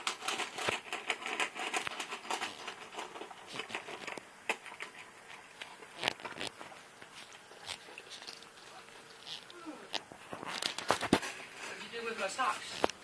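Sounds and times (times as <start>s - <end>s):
dog crunching food: 0.0s - 11.2s.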